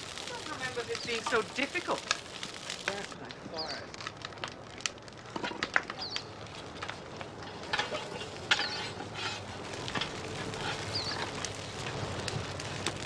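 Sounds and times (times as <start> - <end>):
sharp cracks and pops: 0.0 - 13.0
wood fire crackling and hissing: 0.0 - 13.0.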